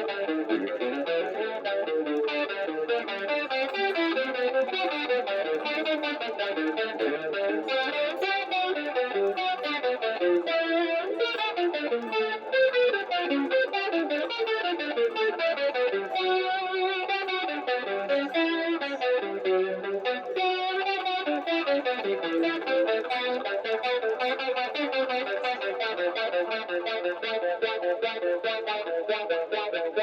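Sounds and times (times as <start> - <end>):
electric guitar with wah: 0.0 - 30.0.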